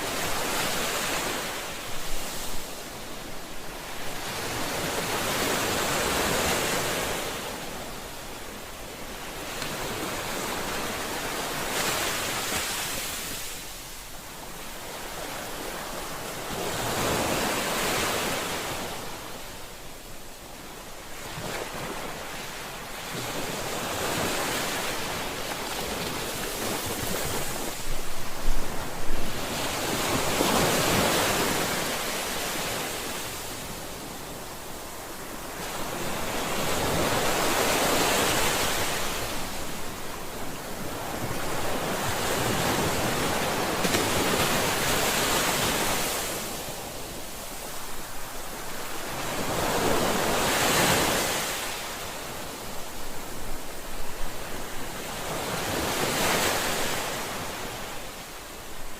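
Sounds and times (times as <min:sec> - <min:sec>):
ocean waves washing in and out: 0:00.0 - 0:58.9.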